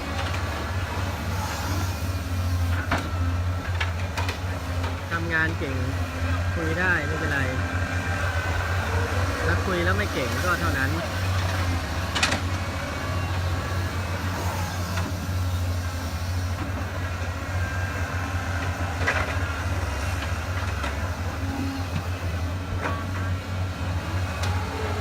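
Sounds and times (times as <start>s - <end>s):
excavator diesel engine rumbling: 0.0s - 25.0s.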